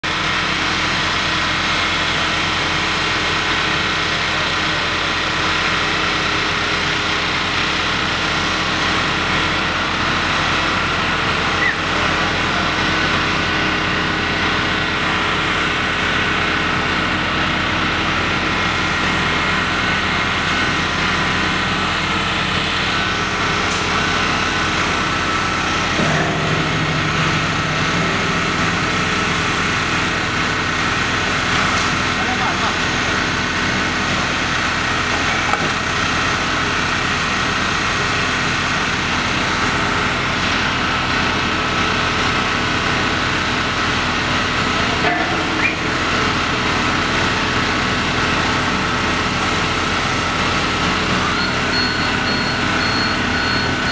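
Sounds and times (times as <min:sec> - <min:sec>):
telehandler engine running: 0:00.0 - 0:53.9.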